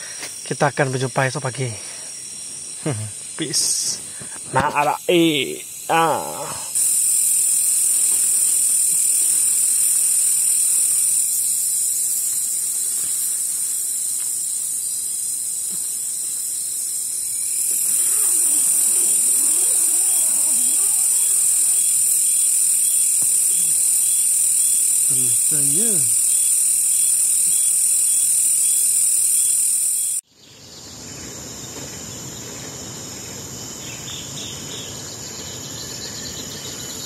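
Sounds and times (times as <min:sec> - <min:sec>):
night insects chorus: 0:00.0 - 0:37.0.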